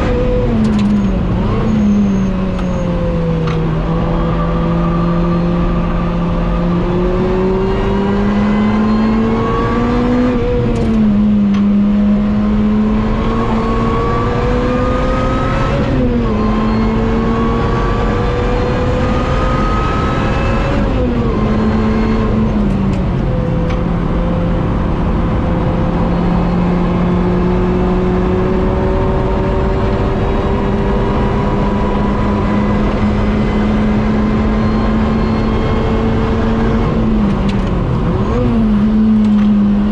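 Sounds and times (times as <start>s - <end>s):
car engine at full throttle: 0.0s - 39.9s.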